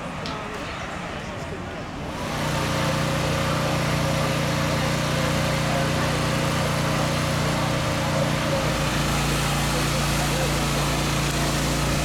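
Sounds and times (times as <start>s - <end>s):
engine humming: 2.2s - 12.0s.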